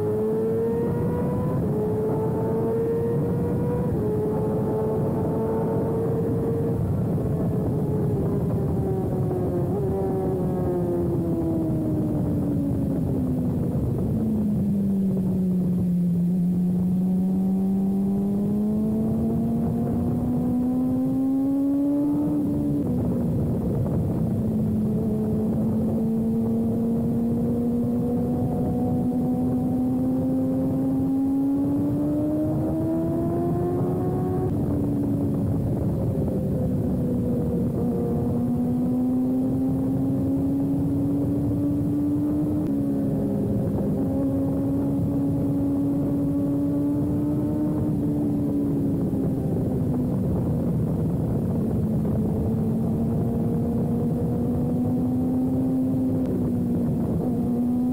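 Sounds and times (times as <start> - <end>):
motorcycle engine running hard: 0.0 - 57.9
wind noise: 0.0 - 57.9.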